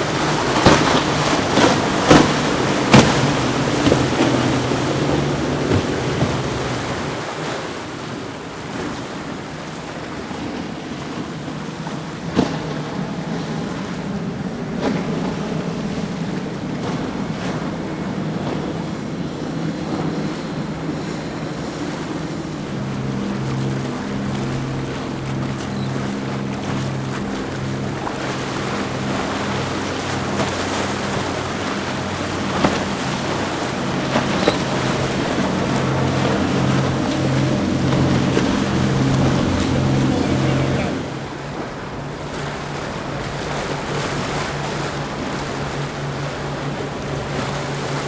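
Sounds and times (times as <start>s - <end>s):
outboard engine drone: 0.0s - 48.0s
spray and waves: 0.0s - 48.0s.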